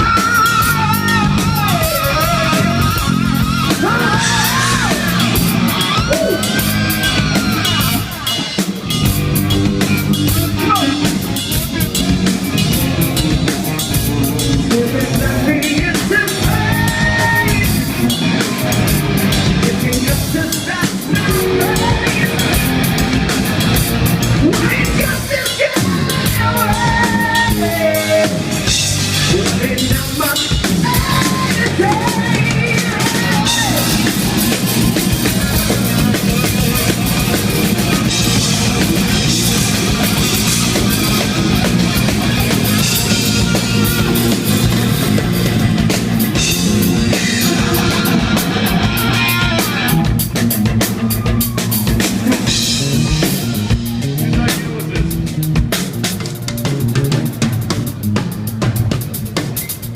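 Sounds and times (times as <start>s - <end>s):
electric guitar bending notes: 0.0s - 29.9s, 30.6s - 59.0s
drum kit steady beat: 0.0s - 59.9s.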